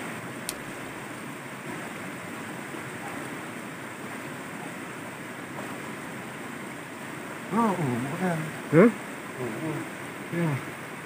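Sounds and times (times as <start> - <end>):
shallow stream water rushing: 0.0 - 11.0.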